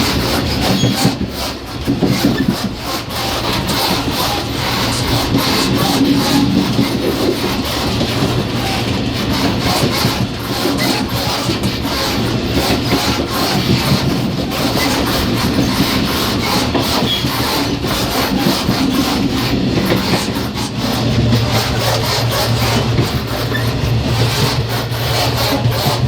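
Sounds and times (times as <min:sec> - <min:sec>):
rattling and rubbing of car connection: 0:00.0 - 0:26.0
train rumble: 0:00.0 - 0:26.0.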